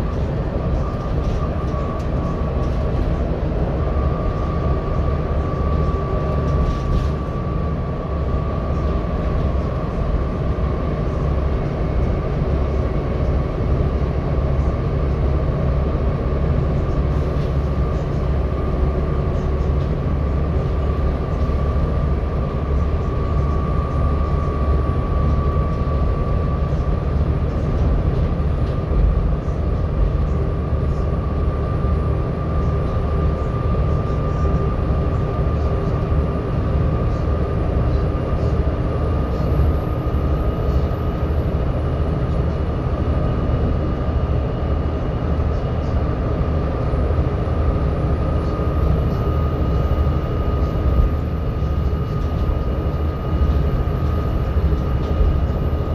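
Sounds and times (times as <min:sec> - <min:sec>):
cooling fan whine: 0:00.0 - 0:55.9
diesel bus engine rumble: 0:00.0 - 0:55.9.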